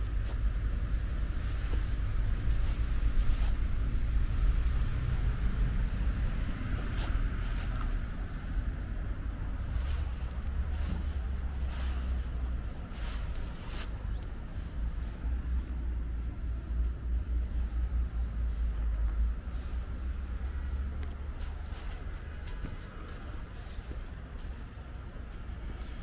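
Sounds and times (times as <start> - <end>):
low rumble with hiss: 0.0 - 26.0.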